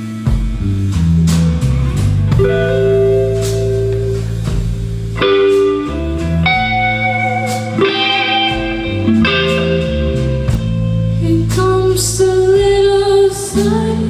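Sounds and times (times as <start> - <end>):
bass line: 0.0 - 14.0
guitars sustaining notes: 0.0 - 14.0
light drums: 0.0 - 14.0.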